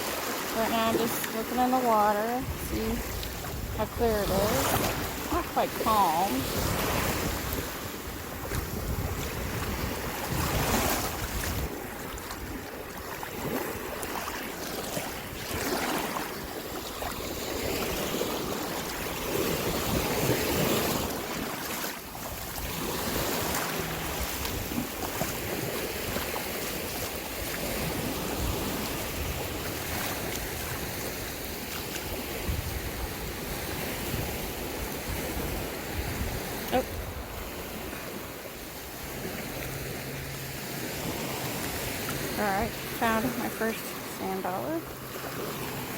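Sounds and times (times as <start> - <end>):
wind buffeting microphone: 0.0 - 21.5, 22.1 - 39.8
small waves washing onto sand: 0.0 - 45.9.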